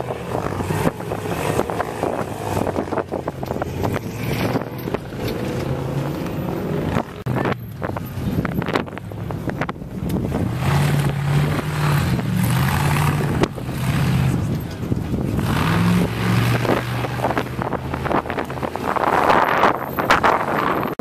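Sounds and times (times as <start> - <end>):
race car engine revving: 0.0 - 21.0
wind noise on microphone: 0.0 - 21.0.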